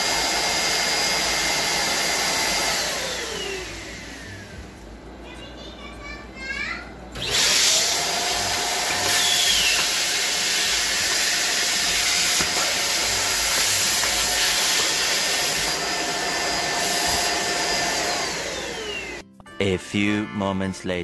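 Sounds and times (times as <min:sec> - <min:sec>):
stick vacuums running: 0:00.0 - 0:05.7, 0:07.0 - 0:19.2.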